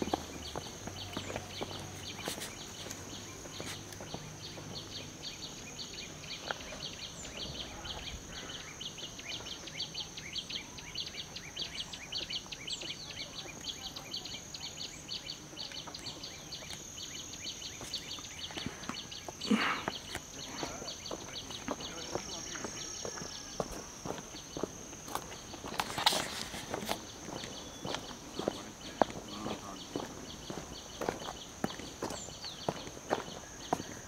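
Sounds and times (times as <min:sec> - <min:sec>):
insects chirping rapidly: 0:00.0 - 0:34.0
insects droning: 0:00.0 - 0:34.0.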